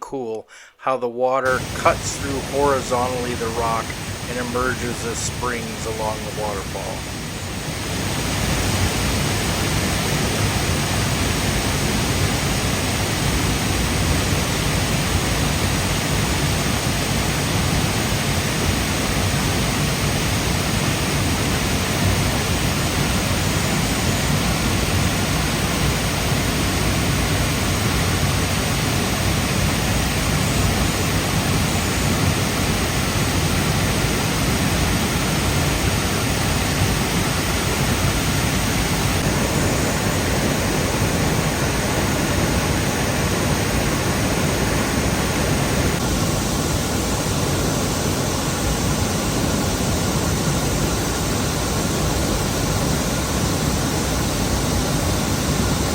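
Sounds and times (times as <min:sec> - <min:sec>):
waterfall rushing: 0:01.4 - 0:55.9.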